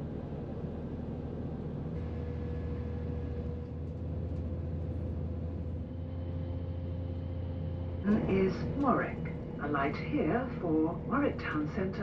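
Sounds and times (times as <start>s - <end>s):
train diesel engine drone: 0.0s - 12.0s.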